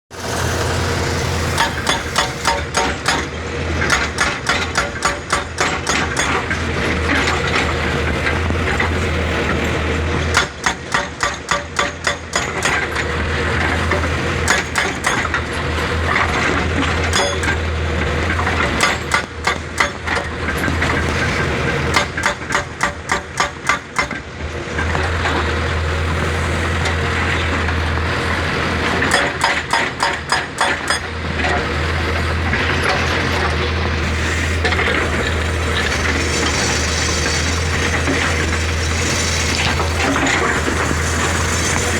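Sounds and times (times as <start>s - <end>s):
diesel engine running: 0.1s - 41.9s
hydraulic breaker hammering rock: 0.1s - 41.9s.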